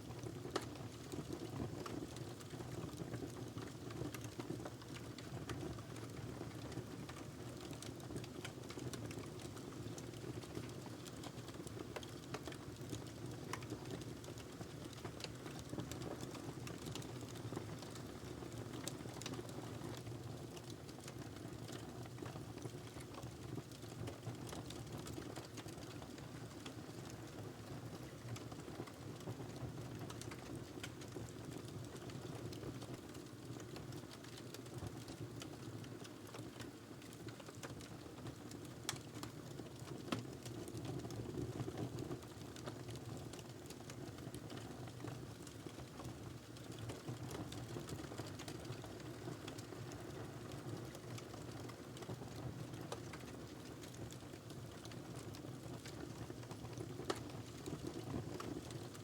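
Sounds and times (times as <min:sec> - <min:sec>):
wood fire crackling: 0:03.8 - 0:27.4, 0:28.1 - 0:41.5, 0:42.2 - 0:59.0.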